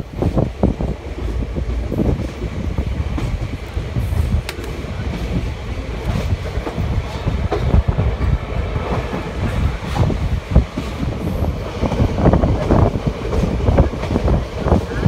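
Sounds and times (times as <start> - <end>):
clacks and knocks of train: 0.0 - 15.0
train wheels rumbling on rail: 0.0 - 15.0.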